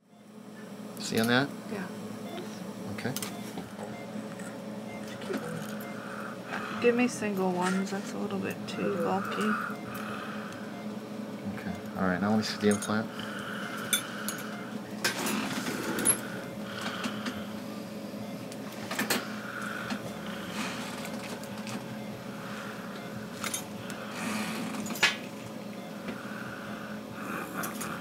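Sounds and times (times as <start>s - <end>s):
dental equipment humming: 0.0s - 28.0s.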